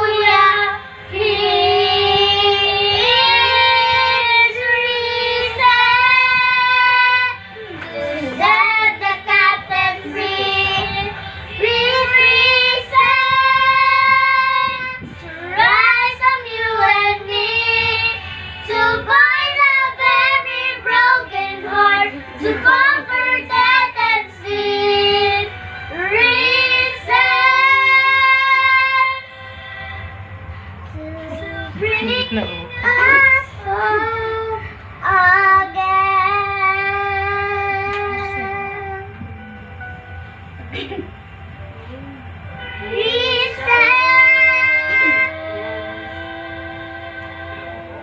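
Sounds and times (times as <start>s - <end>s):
girl and boy singing: 0.0s - 29.4s, 30.9s - 39.4s, 42.6s - 48.0s.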